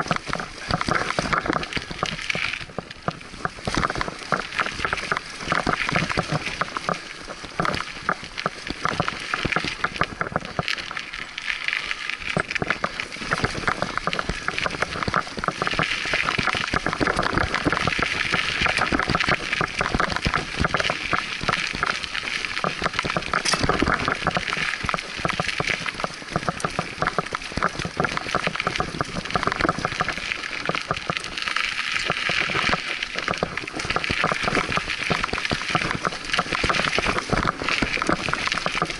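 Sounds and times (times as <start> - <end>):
bike rattling: 0.0 - 38.9
bike tyres rolling over dirt: 0.0 - 38.9.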